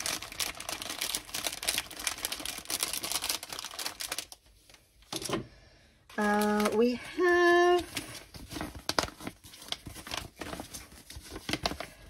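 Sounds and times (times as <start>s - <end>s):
plastic packets crinkling: 0.0s - 5.3s, 6.2s - 12.0s.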